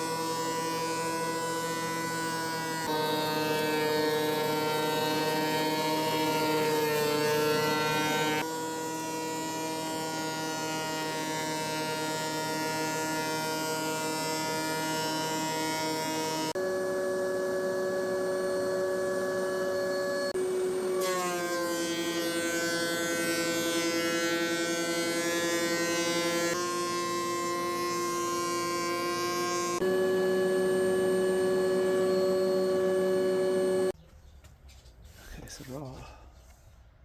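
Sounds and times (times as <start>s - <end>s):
milling machine buzzing whine: 0.0s - 22.5s, 23.2s - 34.0s.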